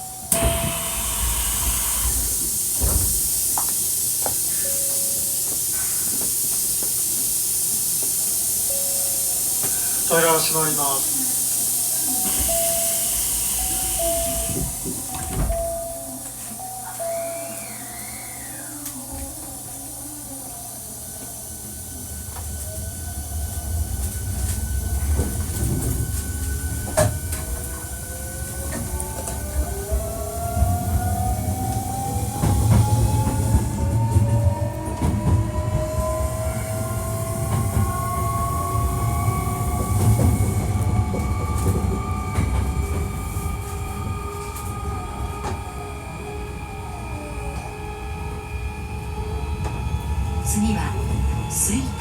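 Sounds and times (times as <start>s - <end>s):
train wheels rumbling on rails: 0.0s - 17.1s, 20.6s - 52.0s.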